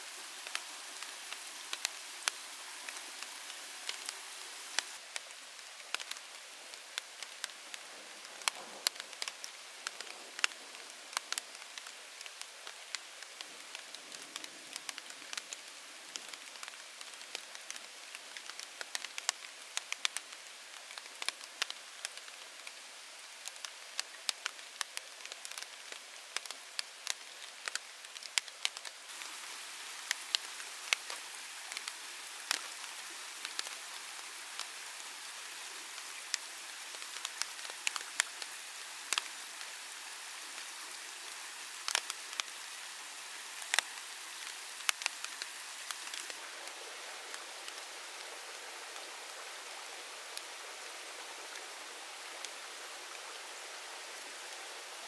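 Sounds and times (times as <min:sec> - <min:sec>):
rain hissing: 0:00.0 - 0:55.0
raindrops ticking: 0:00.2 - 0:55.0.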